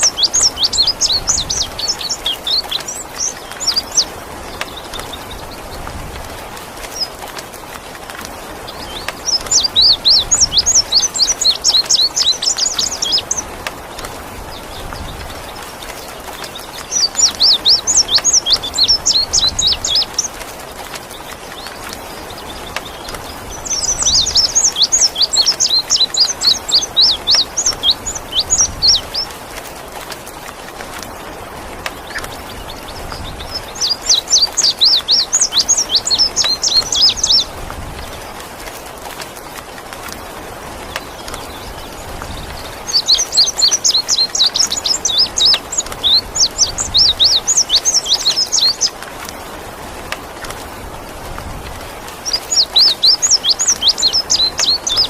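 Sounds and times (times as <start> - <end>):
rain hiss: 0.0 - 55.0
songbird chirping: 0.0 - 55.0.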